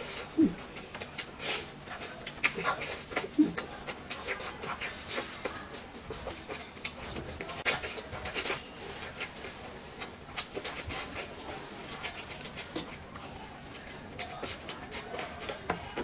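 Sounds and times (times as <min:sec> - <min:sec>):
person chewing and lip-smacking: 0:00.0 - 0:16.0.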